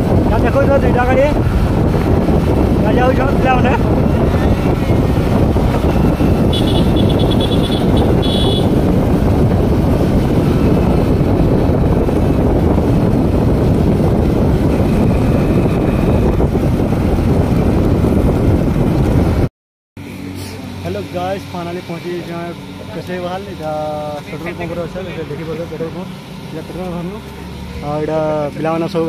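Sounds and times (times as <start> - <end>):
wind and motorcycle road noise: 0.0 - 29.0.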